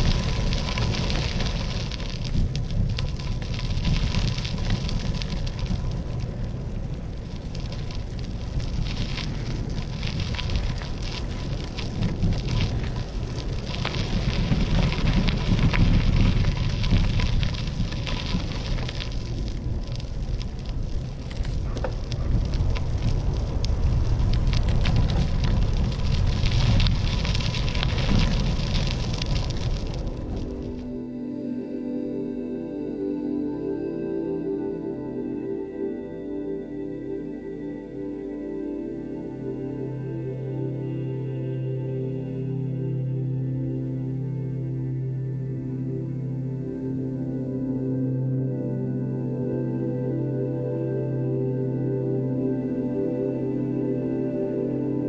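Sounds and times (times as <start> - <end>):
dense crackle: 0.0 - 55.0
wind rumbling on microphone: 0.0 - 55.0.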